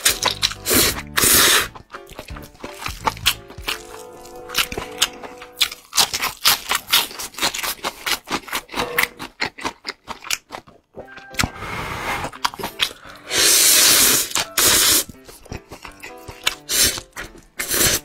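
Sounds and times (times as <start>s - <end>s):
noodles slurped: 0.0s - 10.8s, 11.4s - 18.0s
lettuce crunching: 0.0s - 11.5s, 12.3s - 18.0s.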